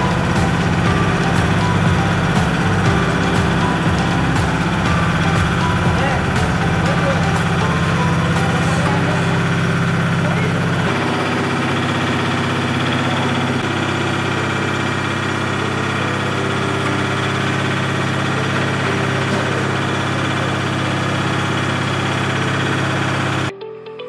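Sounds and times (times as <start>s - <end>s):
drying machine droning: 0.0s - 23.5s.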